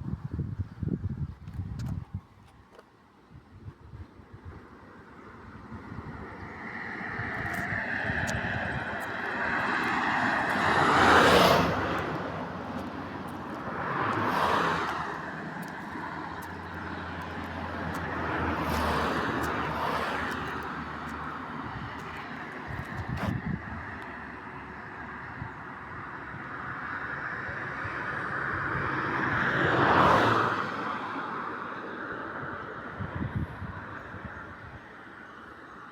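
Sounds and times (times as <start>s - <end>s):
vehicles passing by: 4.4s - 35.9s.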